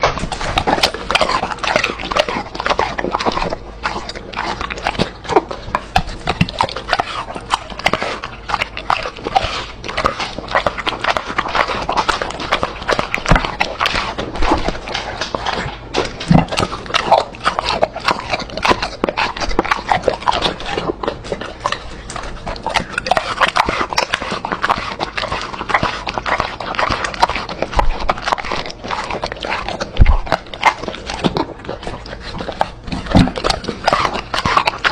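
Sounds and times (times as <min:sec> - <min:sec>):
dog chewing food: 0:00.0 - 0:34.9.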